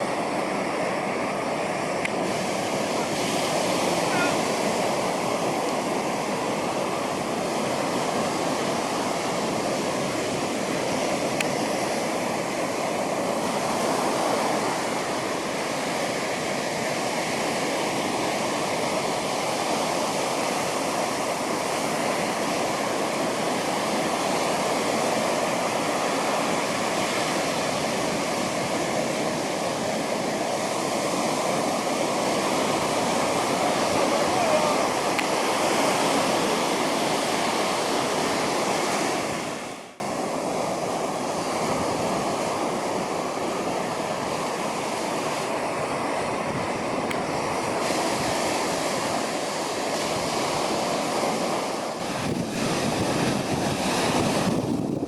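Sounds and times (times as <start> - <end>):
ocean surf on beach: 0.0 - 55.0.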